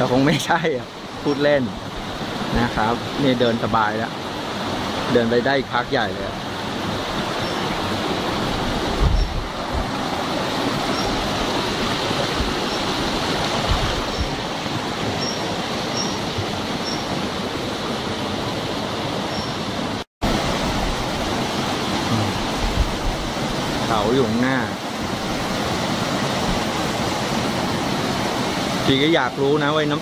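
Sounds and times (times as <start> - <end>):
small waterfall: 0.0 - 30.0
stream rushing over rocks: 0.0 - 30.0.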